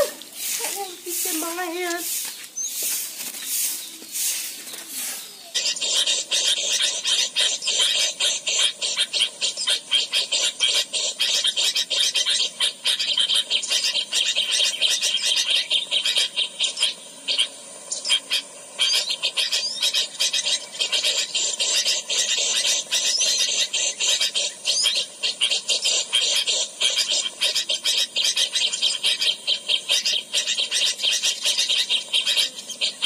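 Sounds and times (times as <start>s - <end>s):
bird chattering harshly: 0.0s - 33.0s.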